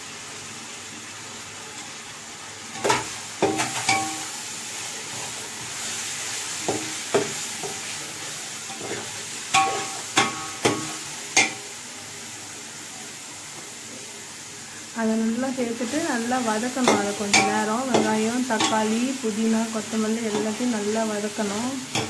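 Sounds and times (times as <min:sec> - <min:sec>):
faint frying sizzle: 0:00.0 - 0:22.0.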